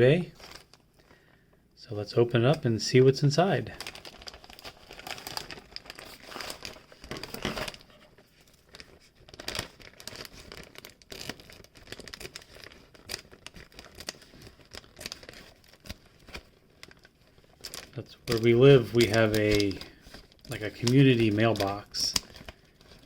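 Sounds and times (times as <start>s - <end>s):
mailing bag crinkling and tearing: 0.0s - 0.9s, 3.2s - 23.0s.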